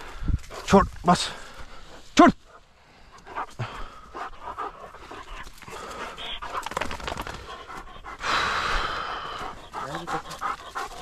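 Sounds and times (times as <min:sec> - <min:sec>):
dog panting hard: 0:01.6 - 0:11.0.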